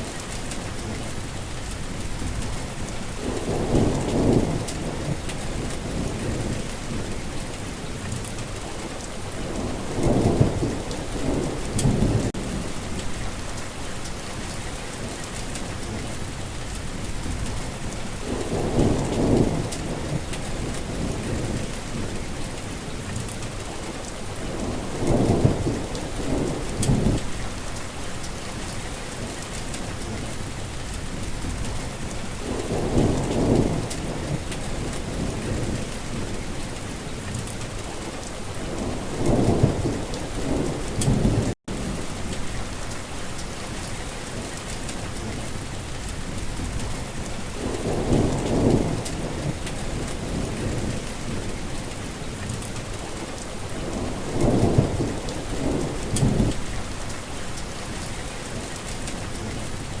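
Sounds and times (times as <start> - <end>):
heavy rain falling: 0.0 - 60.0
thunder rumbling: 0.2 - 60.0.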